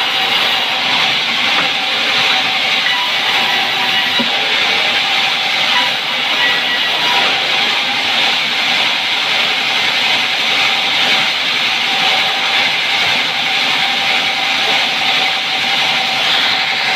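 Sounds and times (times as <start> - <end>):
band saw cutting timber: 0.0 - 16.9.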